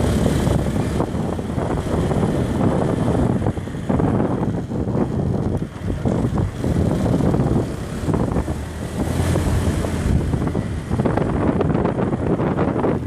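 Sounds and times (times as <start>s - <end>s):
motorbike engine: 0.0s - 13.0s
road noise: 0.0s - 13.0s
wind buffeting microphone: 0.0s - 13.0s.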